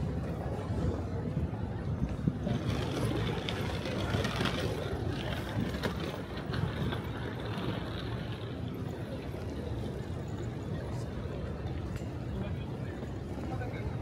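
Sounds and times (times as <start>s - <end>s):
people walking past: 0.0s - 14.0s
traffic rumble: 0.0s - 14.0s.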